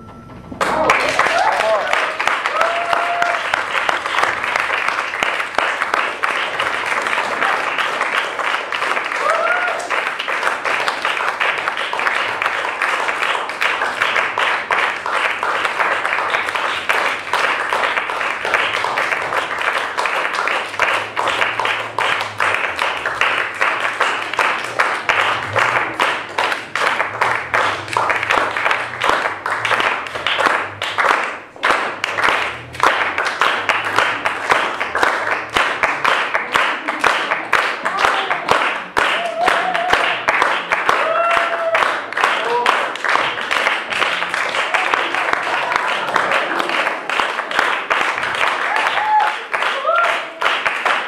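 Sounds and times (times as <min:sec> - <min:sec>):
audience applauding: 0:00.0 - 0:51.0.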